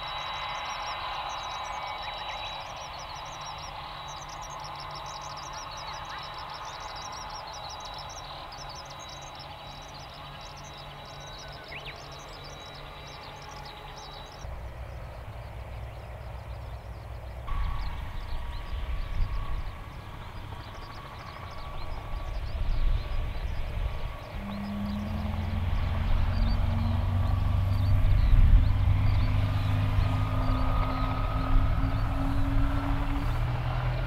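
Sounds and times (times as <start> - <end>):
thin steady high tone: 0.0 - 27.3
low rumble: 0.0 - 34.0
thin steady whine: 0.0 - 34.0.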